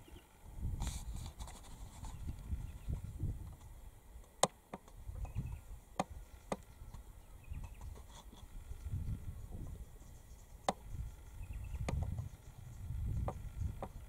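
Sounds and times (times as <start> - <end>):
low unsteady rumble: 0.0 - 4.3, 4.9 - 14.0.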